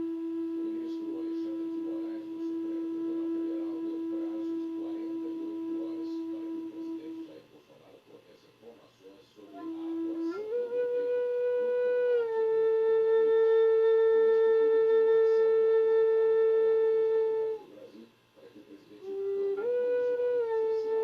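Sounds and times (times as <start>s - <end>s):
long blown wind instrument notes: 0.0s - 7.5s, 9.4s - 21.0s.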